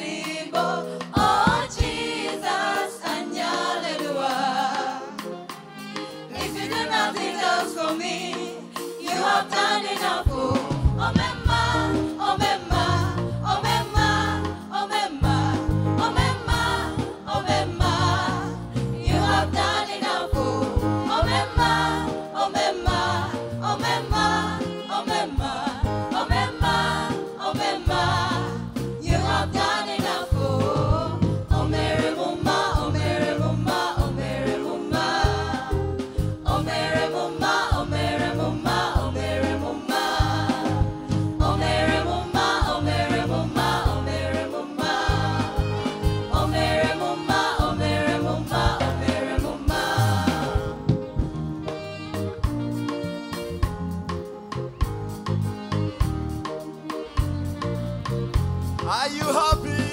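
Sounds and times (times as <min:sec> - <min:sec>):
group singing: 0:00.0 - 0:51.1, 0:59.0 - 0:59.9
live band: 0:00.0 - 0:59.9.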